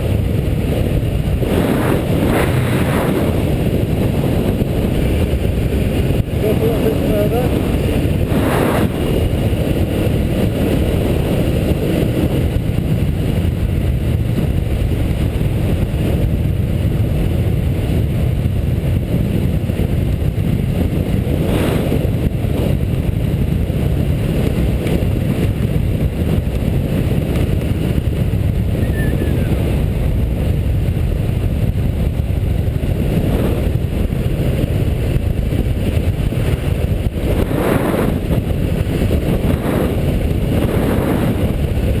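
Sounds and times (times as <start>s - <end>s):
vehicle road and wind noise: 0.0s - 42.0s.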